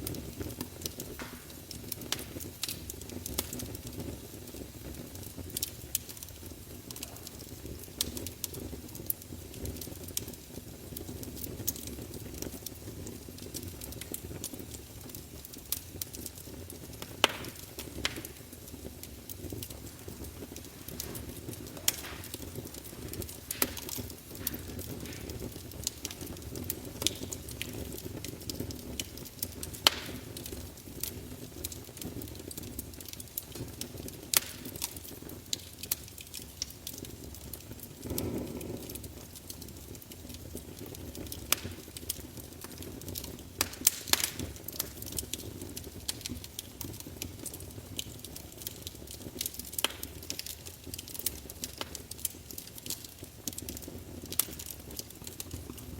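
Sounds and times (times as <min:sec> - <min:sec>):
low rumble of flame: 0:00.0 - 0:55.9
wood fire crackling: 0:00.0 - 0:55.9.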